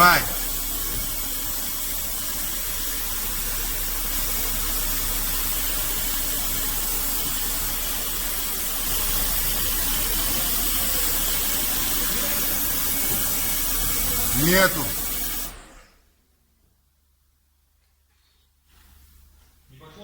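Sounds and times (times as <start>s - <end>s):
car engine idling with hiss and hum: 0.0s - 16.1s.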